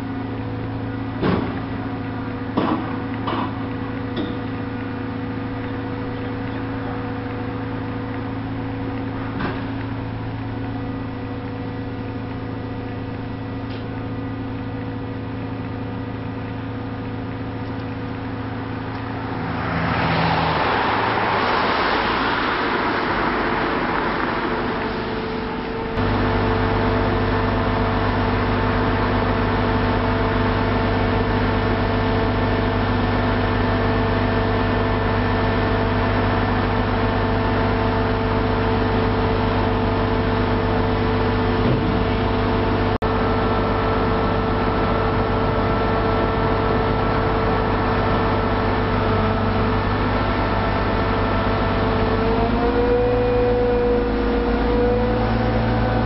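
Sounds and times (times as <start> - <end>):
crane diesel engine running: 0.0 - 56.0
steady whine: 0.0 - 56.0.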